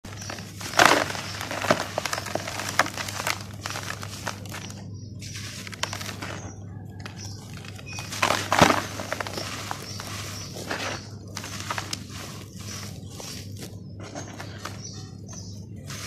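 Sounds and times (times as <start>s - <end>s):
dry dirt pots crunching: 0.0s - 16.0s
dry soil crackling and falling grit: 0.0s - 16.0s.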